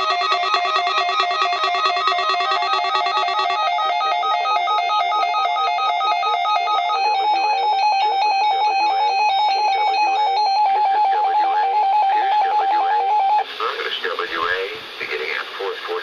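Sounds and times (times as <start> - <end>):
electronic alert alarm: 0.0 - 13.4.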